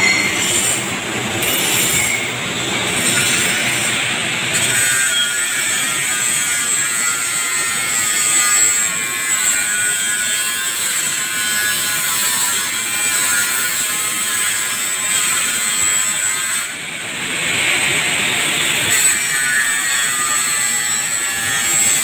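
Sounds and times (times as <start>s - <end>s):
welding arc buzzing with high whine: 0.0s - 22.0s.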